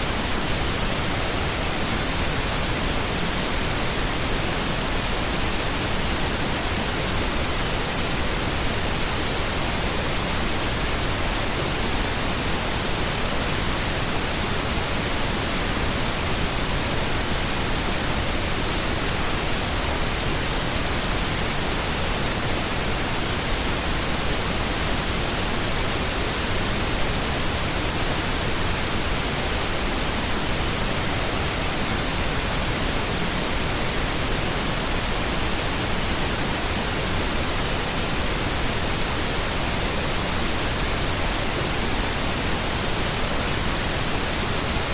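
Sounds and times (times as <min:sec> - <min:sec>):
pink noise hiss: 0:00.0 - 0:44.9.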